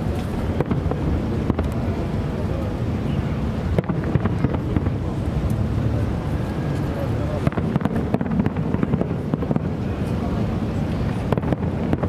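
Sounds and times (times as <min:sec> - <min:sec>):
fireworks bangs: 0:00.0 - 0:01.9, 0:03.7 - 0:12.0
low rumble: 0:00.0 - 0:12.0.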